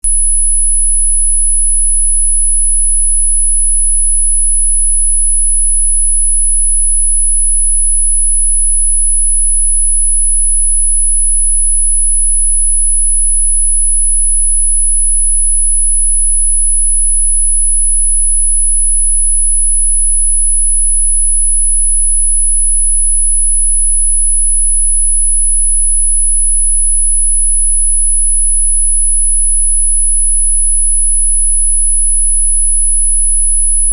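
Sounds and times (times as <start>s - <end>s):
high-pitched sine tone: 0.0s - 33.9s.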